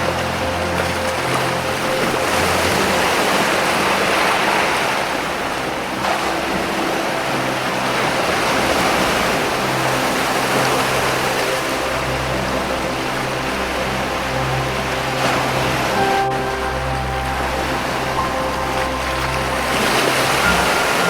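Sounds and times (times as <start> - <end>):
soft music pad: 0.0 - 21.0
waves breaking over rocks: 0.0 - 21.0.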